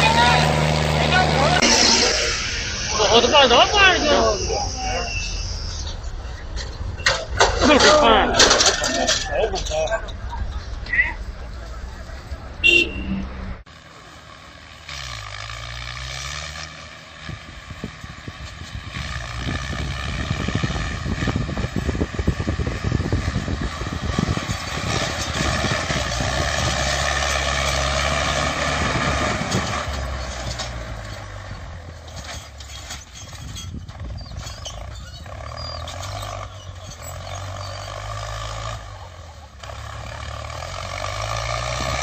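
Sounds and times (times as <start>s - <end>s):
heavy vehicle engine running: 0.0s - 42.0s.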